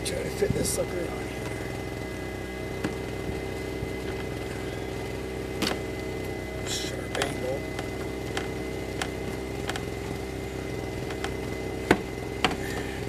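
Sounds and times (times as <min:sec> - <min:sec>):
steady motor drone: 0:00.0 - 0:13.0.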